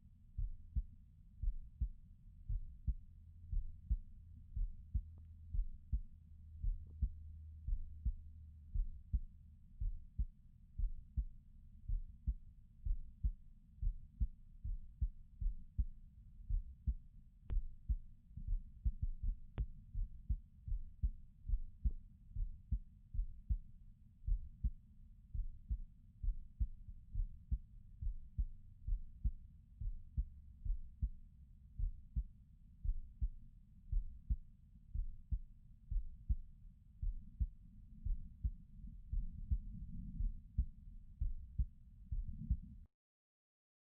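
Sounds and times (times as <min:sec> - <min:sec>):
muffled heartbeat: 0:00.3 - 0:42.9.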